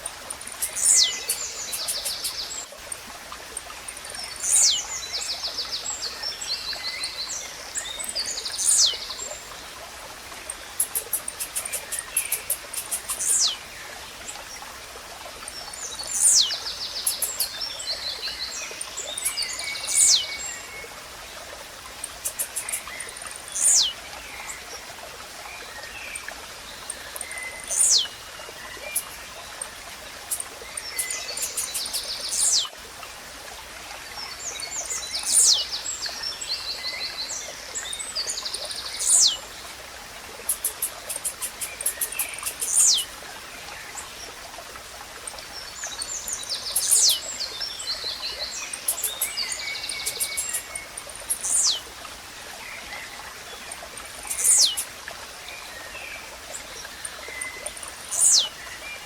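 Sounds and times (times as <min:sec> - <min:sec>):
small birds twittering: 0:00.0 - 0:02.8, 0:03.8 - 0:09.4, 0:10.4 - 0:14.6, 0:15.4 - 0:20.9, 0:21.9 - 0:24.7, 0:25.6 - 0:32.8, 0:34.2 - 0:39.6, 0:40.4 - 0:44.3, 0:45.2 - 0:52.0, 0:52.6 - 0:59.0
stream rushing: 0:00.0 - 0:59.0.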